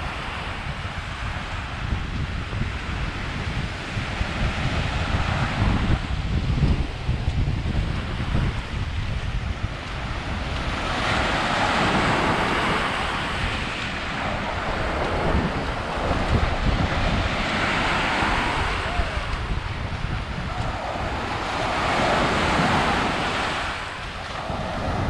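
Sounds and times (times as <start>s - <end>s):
small waves washing over sand: 0.0s - 25.0s
wind buffeting microphone: 0.0s - 25.0s.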